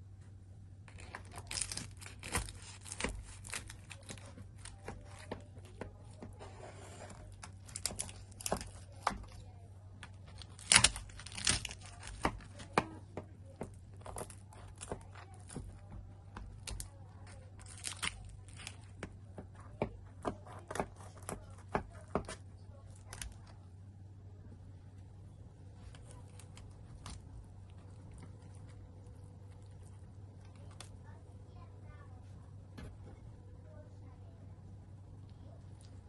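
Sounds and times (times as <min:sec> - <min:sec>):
steady low hum: 0:00.0 - 0:36.0
crisp material crinkling: 0:00.8 - 0:23.7, 0:25.7 - 0:32.3.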